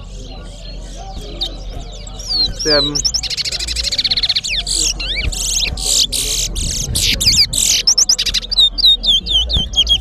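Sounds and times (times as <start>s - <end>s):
finch singing trills and whistles: 0.0s - 10.0s.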